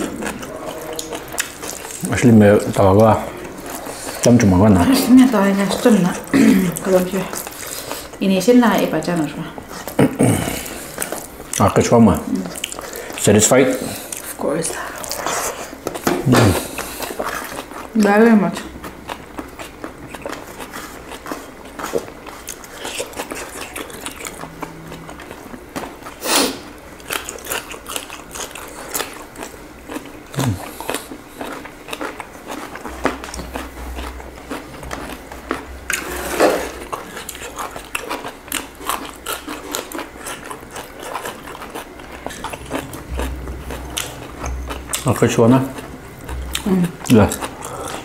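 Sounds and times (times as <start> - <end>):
chewing and biting food: 0.0 - 48.0.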